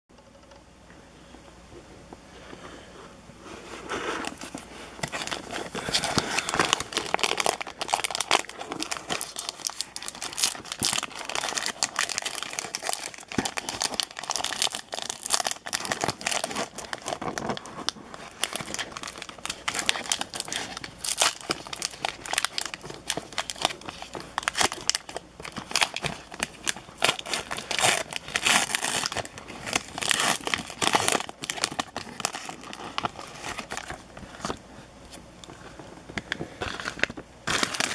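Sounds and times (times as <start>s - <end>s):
plastic wrapper crinkling: 4.2s - 34.6s, 35.2s - 37.9s.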